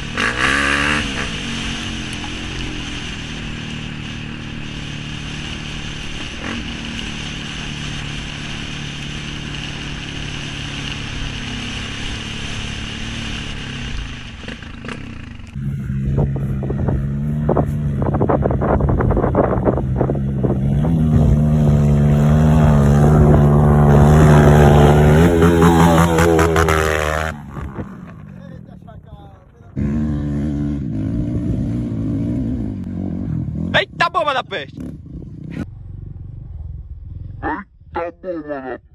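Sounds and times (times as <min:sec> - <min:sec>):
dirt bike engine revving: 0:00.0 - 0:37.6.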